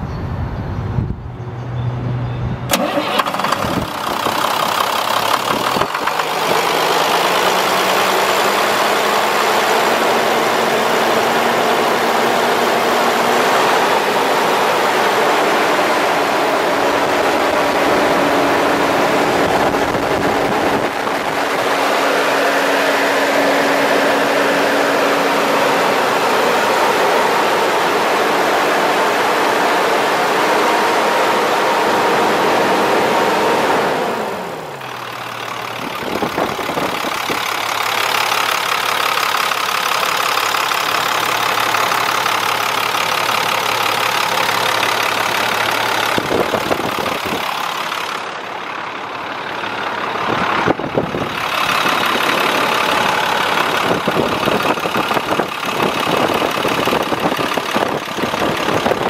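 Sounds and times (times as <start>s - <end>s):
diesel truck engine idling: 2.7s - 59.0s.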